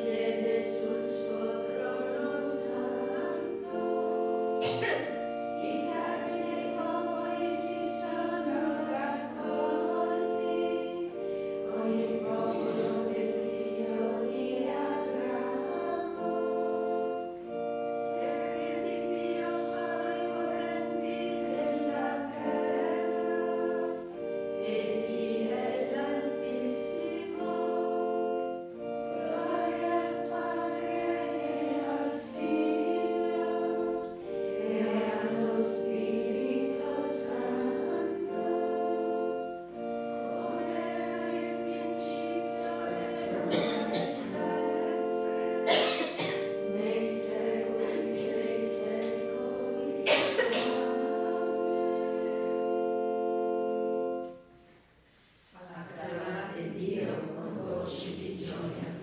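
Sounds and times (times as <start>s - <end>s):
women singing a hymn: 0.0s - 59.0s.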